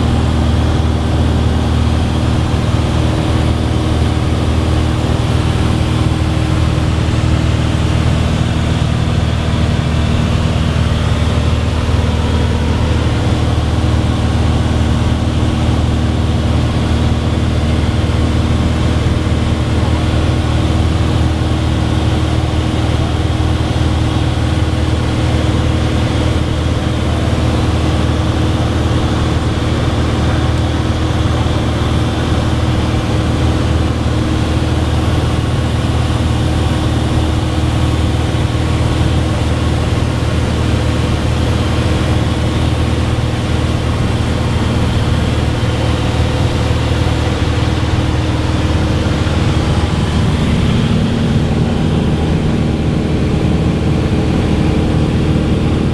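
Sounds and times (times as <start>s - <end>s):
propeller plane engine droning: 0.0s - 55.9s.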